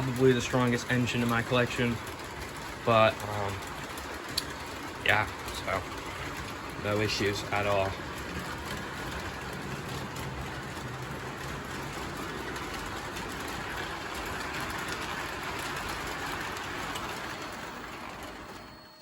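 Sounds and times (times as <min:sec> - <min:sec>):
model train wheels rumbling on track: 0:00.0 - 0:19.0.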